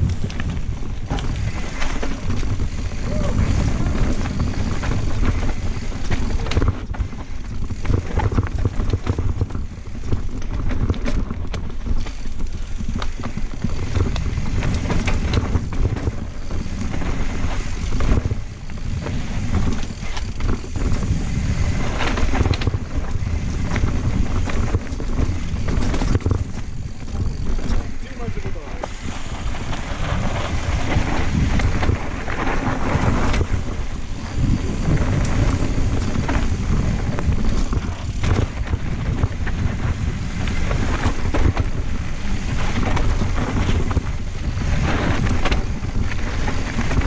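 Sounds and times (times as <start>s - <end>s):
bike rattling clicks and knocks: 0.0s - 47.0s
bike tyre noise: 0.0s - 47.0s
wind buffeting microphone: 0.0s - 47.0s.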